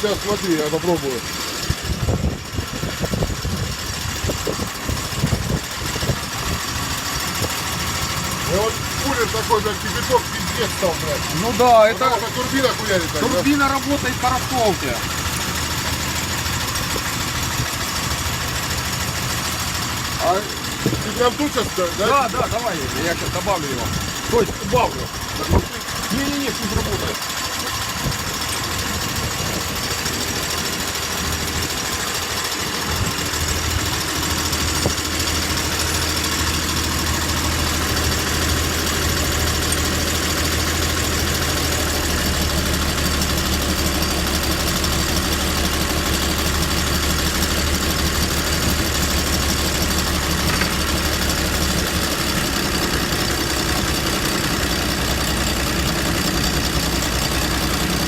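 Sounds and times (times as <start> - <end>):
boat diesel engine running: 0.0 - 58.0.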